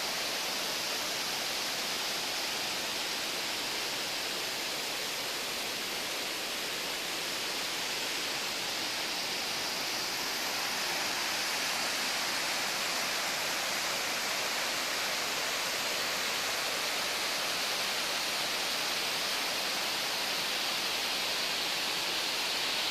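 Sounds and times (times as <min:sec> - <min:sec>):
rushing water: 0:00.0 - 0:22.9.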